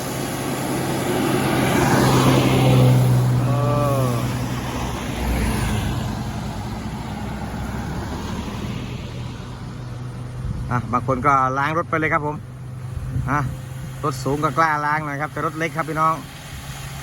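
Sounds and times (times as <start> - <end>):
tyres hissing through water: 0.0 - 9.3, 12.4 - 17.0
engine hum: 0.0 - 17.0.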